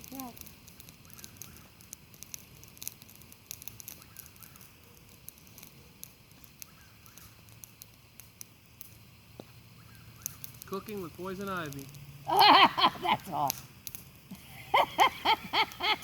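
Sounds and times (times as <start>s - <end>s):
campfire crackling: 0.0s - 16.0s
sharp pops from fire: 0.0s - 16.0s.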